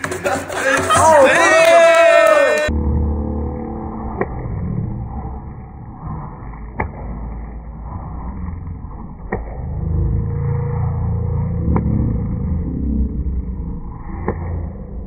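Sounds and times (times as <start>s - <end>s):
low muffled rumble: 2.7s - 15.0s.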